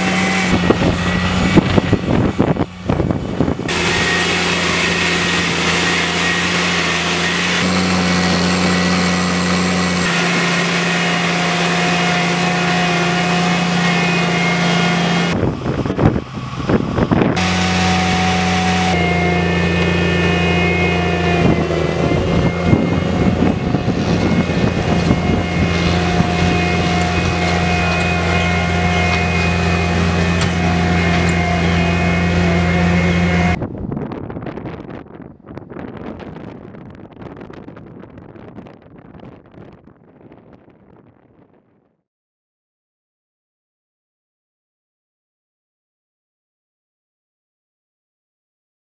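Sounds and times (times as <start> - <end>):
tracked plow engine droning: 0.0 - 41.8.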